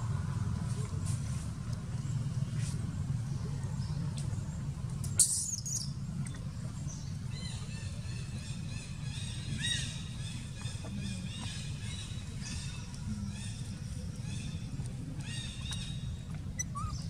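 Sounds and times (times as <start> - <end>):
birds chirping: 1.9 - 17.0.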